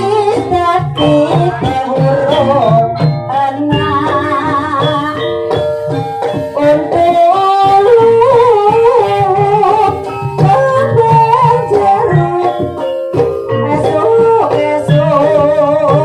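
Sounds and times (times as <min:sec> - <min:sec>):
person singing: 0:00.0 - 0:05.3, 0:06.5 - 0:16.0
drum: 0:00.0 - 0:16.0
gamelan struck tones: 0:00.0 - 0:16.0.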